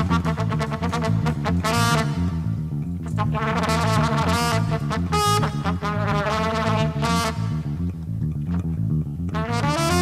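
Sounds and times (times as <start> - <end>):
jazz trumpet: 0.0 - 8.2, 9.3 - 10.0
repeating bass groove: 0.0 - 10.0.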